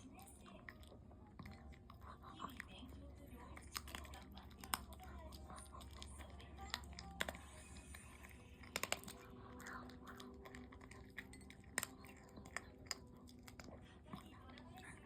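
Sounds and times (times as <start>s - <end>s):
dog crunching food: 0.0s - 15.0s.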